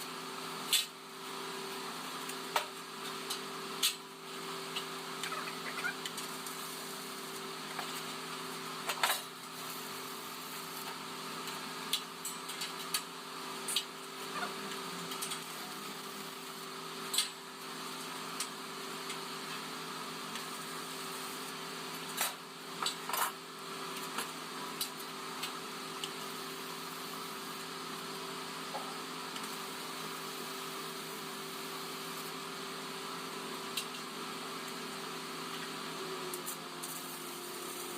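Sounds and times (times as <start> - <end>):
mechanical hum with tones: 0.0 - 37.9.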